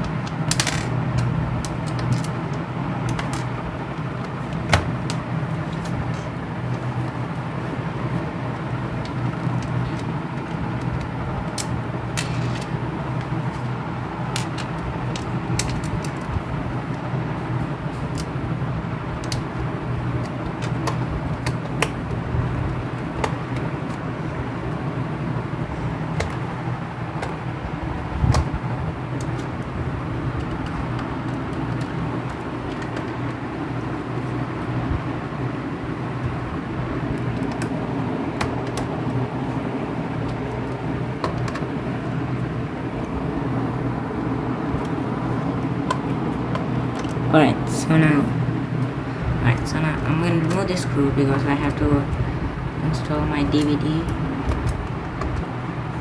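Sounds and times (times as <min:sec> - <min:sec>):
steady rumbling background noise: 0:00.0 - 0:56.0.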